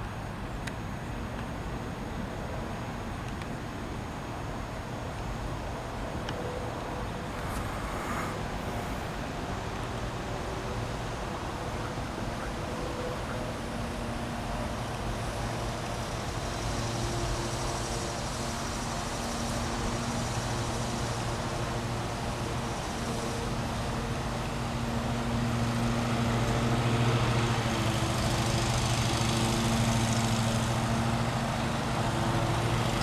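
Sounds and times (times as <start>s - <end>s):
vehicle rumble: 0.0s - 33.0s.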